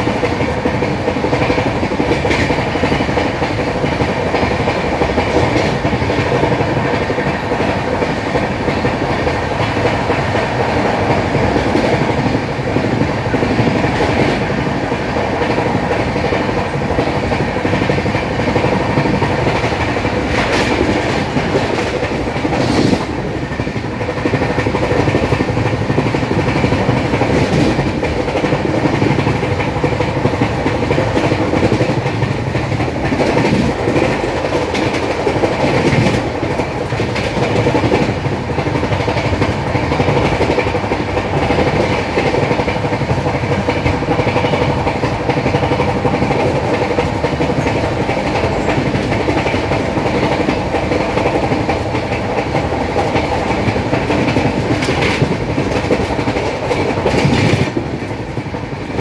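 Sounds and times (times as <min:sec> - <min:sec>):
train wheels rushing on rails: 0:00.0 - 0:59.0.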